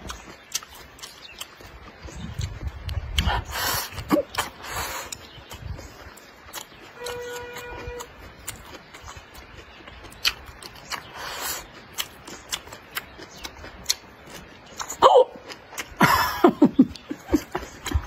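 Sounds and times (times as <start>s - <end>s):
chewing and slurping: 0.0s - 16.1s, 16.7s - 18.0s.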